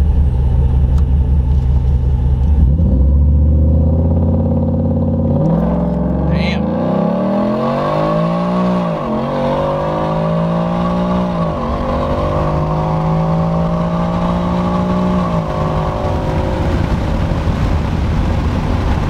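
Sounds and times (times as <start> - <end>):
engine revving through gears: 0.0 - 16.9
road and wind noise: 0.0 - 19.0.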